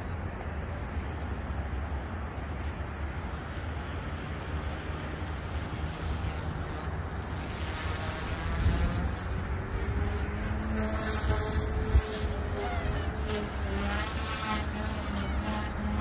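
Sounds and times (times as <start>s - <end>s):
rc helicopter motor whine: 0.0s - 16.0s
wind rumbling on microphone: 0.0s - 16.0s.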